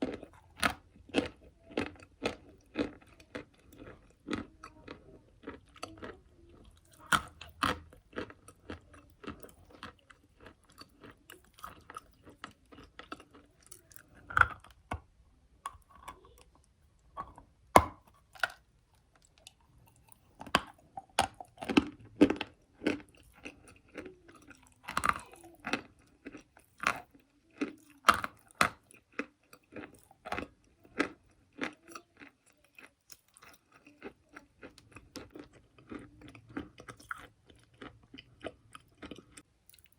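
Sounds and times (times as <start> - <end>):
chewing chalk crunches: 0.0 - 15.1, 18.2 - 39.9.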